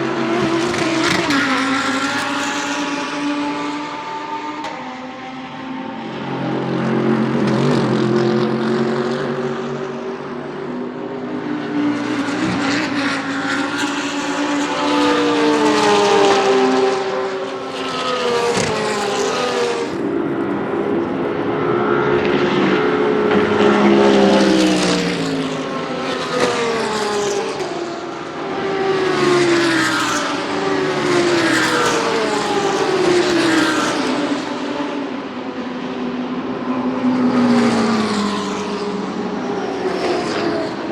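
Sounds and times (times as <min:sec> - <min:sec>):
race cars passing at full throttle: 0:00.0 - 0:40.9.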